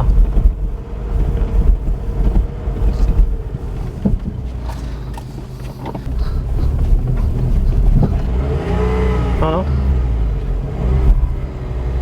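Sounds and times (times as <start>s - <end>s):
small car engine running: 0.0s - 12.0s
short clunks: 1.2s - 11.4s.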